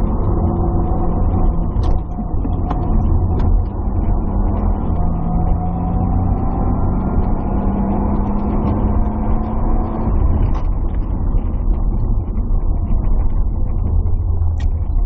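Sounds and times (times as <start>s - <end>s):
road and wind noise: 0.0s - 15.0s
turbocharged car engine running hard: 0.0s - 15.0s.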